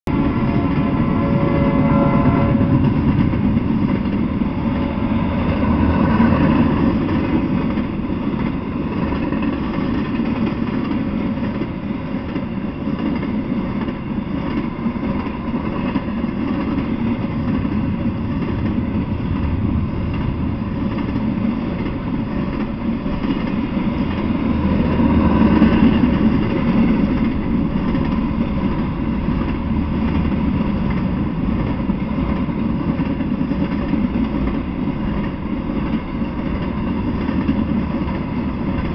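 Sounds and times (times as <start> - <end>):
freight train rolling past: 0.0 - 38.9
steel wheels rumbling on rails: 0.0 - 38.9.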